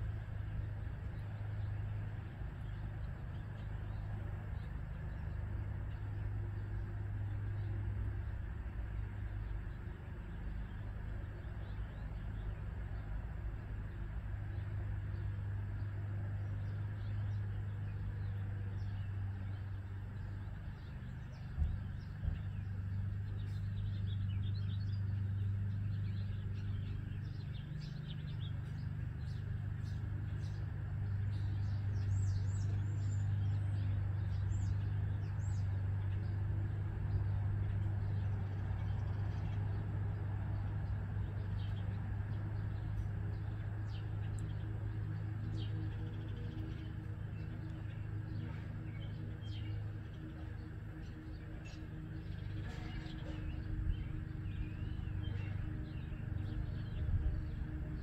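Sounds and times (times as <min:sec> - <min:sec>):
birds chirping: 0:00.0 - 0:58.0
steady low hum: 0:00.0 - 0:58.0.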